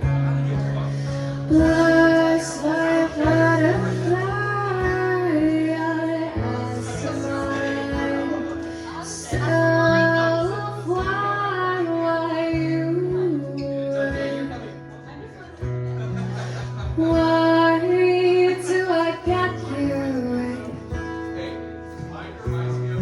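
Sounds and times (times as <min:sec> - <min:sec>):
guitar: 0:00.0 - 0:23.0.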